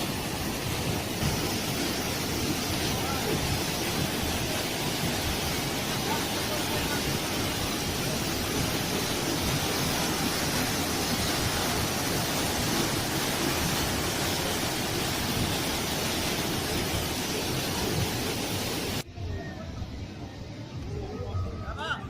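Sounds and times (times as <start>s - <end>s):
waterfall rushing: 0.0s - 19.1s.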